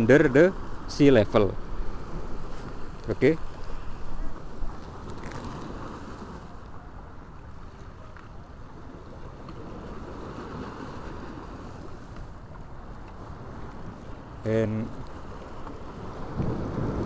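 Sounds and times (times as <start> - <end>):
sea waves washing against rocks: 0.0 - 8.0, 8.6 - 17.0
wind buffeting microphone: 0.0 - 17.0.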